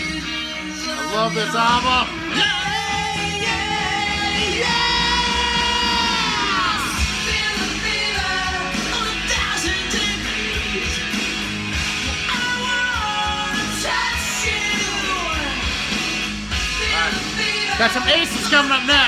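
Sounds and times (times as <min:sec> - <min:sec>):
rock song from vinyl record: 0:00.0 - 0:19.0.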